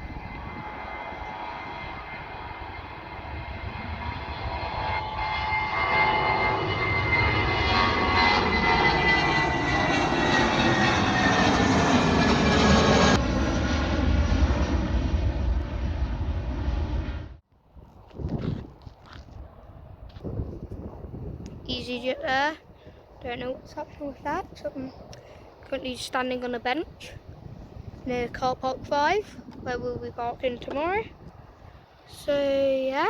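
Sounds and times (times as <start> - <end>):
airliner engines roaring: 0.0 - 17.4, 19.2 - 33.0.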